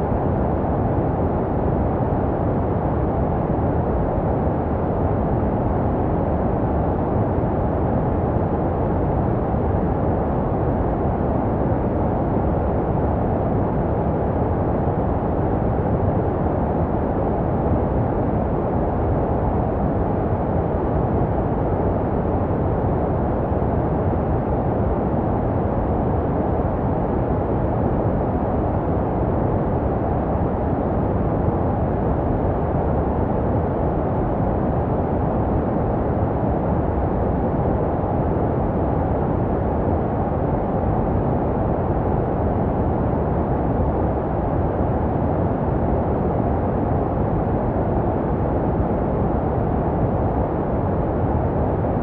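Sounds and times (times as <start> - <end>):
muffled white noise hiss: 0.0 - 52.0.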